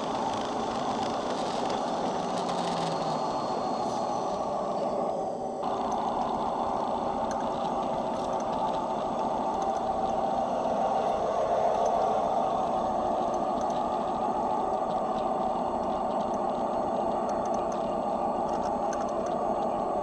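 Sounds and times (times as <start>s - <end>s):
model locomotive running on rails: 0.0s - 20.0s.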